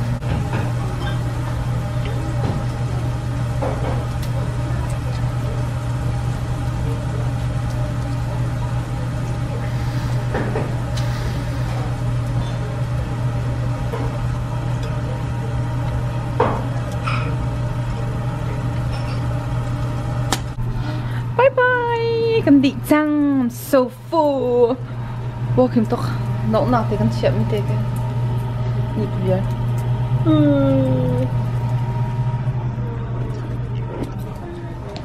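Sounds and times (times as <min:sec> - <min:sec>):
ventilation hum: 0:00.0 - 0:35.0.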